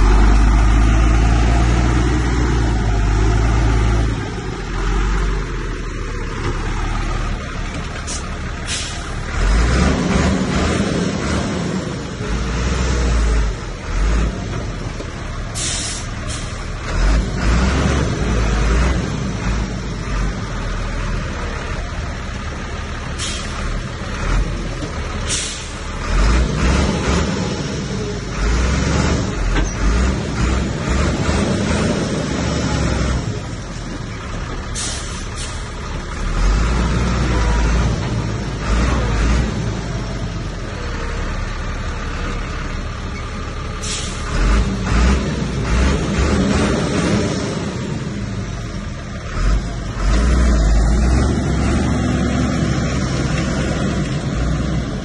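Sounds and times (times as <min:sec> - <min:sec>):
diesel machinery engine rumble: 0:00.0 - 0:55.0.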